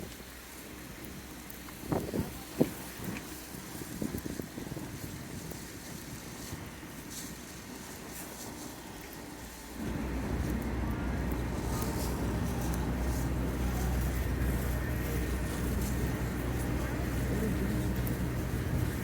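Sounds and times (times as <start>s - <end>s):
street hiss: 0.0s - 19.0s
vehicle engine rumbling: 0.0s - 19.0s.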